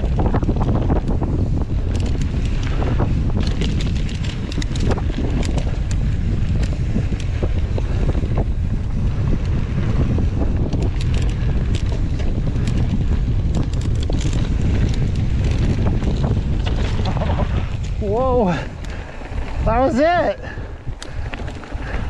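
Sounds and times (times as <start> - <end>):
bike tyres rattling on gravel: 0.0 - 22.0
wind buffeting microphone: 0.0 - 22.0.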